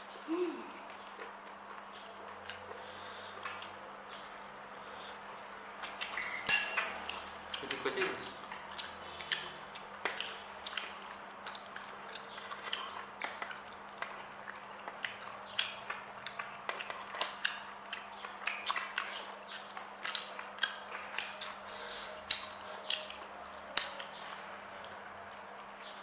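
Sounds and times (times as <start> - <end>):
low electrical hum: 0.0 - 26.0
person chewing food: 0.7 - 26.0.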